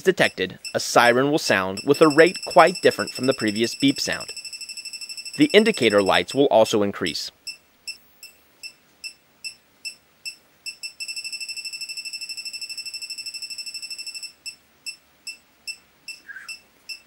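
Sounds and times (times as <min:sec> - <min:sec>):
leak detector beeping: 0:00.0 - 0:06.2, 0:07.4 - 0:17.0
rapid-fire alarm beeps: 0:01.7 - 0:06.0, 0:07.5 - 0:17.0.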